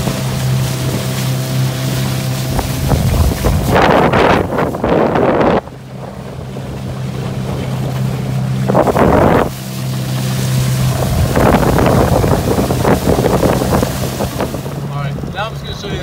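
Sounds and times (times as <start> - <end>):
outboard motor droning: 0.0 - 16.0
wind blasting microphone: 0.0 - 16.0.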